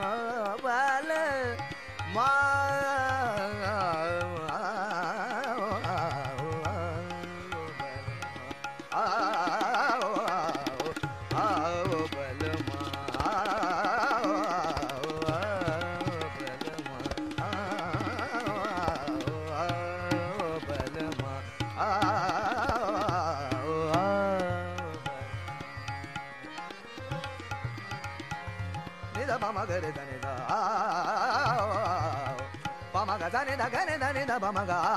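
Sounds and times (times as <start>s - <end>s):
ornamented singing: 0.0s - 34.9s
tabla: 0.0s - 34.9s.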